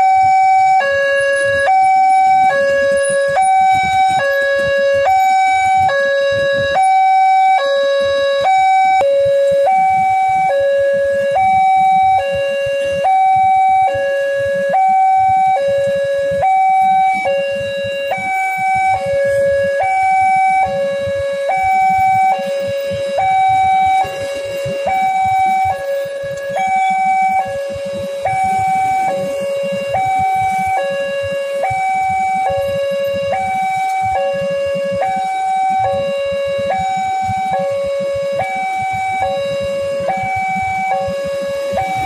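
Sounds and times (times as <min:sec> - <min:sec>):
two-tone level crossing alarm: 0:00.0 - 0:42.0.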